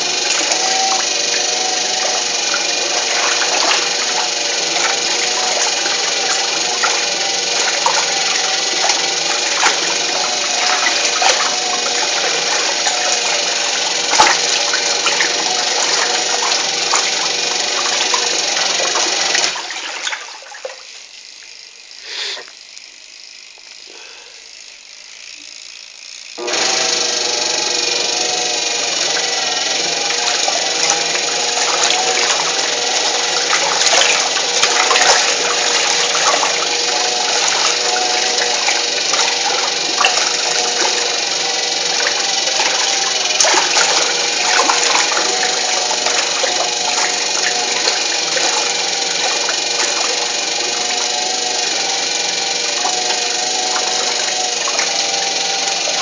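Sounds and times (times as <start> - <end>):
washing machine water churning: 0.0 - 56.0.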